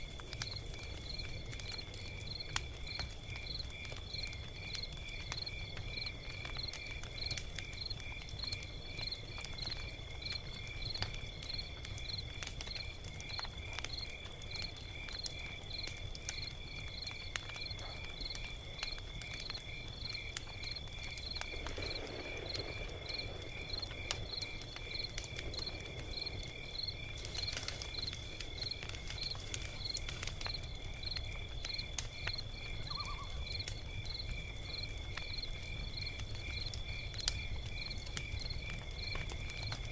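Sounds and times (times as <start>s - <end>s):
crickets chirping: 0.0s - 39.9s
fire pops: 0.0s - 39.9s
log fire crackling: 0.0s - 39.9s.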